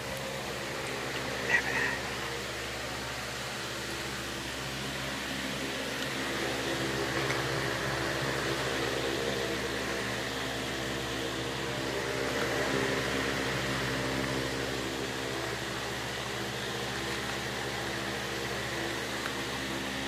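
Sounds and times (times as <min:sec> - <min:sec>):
washing machine humming: 0:00.0 - 0:20.0.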